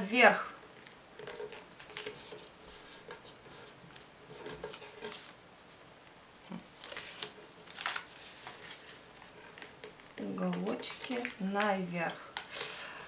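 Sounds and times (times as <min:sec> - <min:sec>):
paper rustling and creasing: 0:00.8 - 0:13.0.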